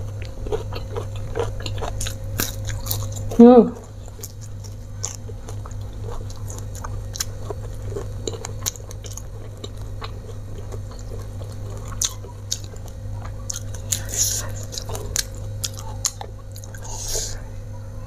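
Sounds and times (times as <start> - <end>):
chewing food: 0.0 - 17.4
steady low hum: 0.0 - 18.0.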